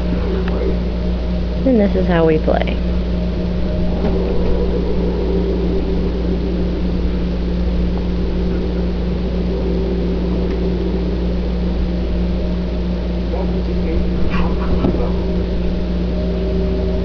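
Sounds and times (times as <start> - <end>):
faint tones: 0.0 - 17.0
low mechanical hum and rumble: 0.0 - 17.0.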